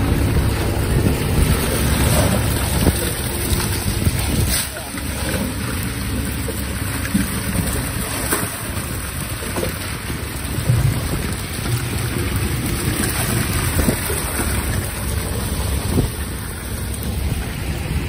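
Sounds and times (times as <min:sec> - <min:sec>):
fish and water gushing from hose: 0:00.0 - 0:18.0
low rumble: 0:00.0 - 0:18.0.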